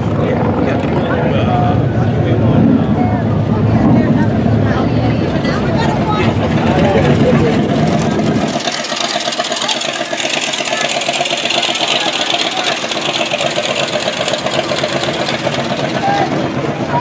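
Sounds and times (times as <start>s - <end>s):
car engine idling: 3.0s - 17.0s.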